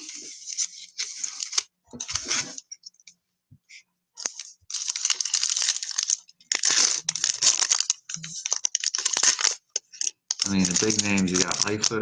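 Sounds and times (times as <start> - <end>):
card pack wrappers tearing and crinkling: 0.0 - 2.6, 4.2 - 12.0.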